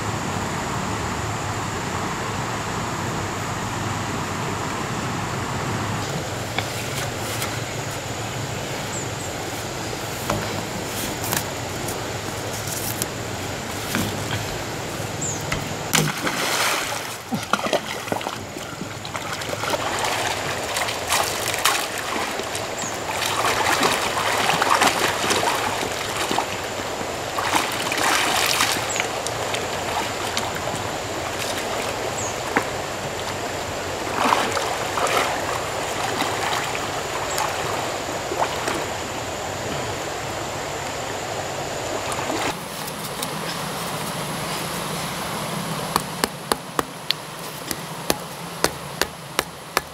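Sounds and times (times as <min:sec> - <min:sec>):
water splashing and sloshing: 0:05.5 - 0:49.9.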